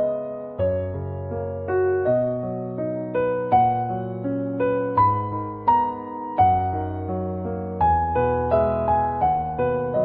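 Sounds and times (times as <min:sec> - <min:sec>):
slow electric piano melody: 0:00.0 - 0:10.0.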